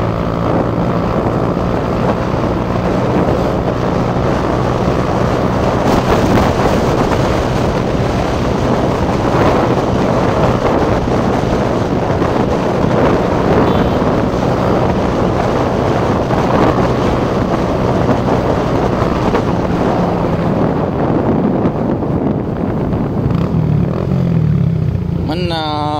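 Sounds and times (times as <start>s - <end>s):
motorcycle engine running: 0.0s - 25.9s
wind rushing over microphone: 0.0s - 25.9s.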